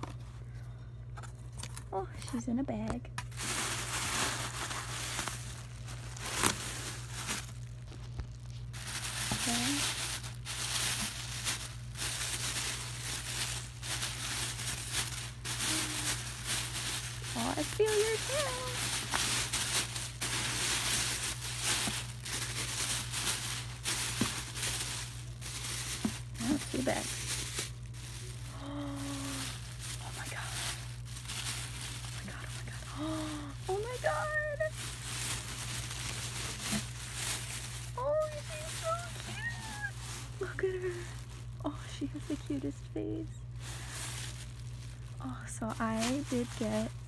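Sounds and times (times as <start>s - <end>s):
plastic bag crinkling: 3.2s - 47.0s.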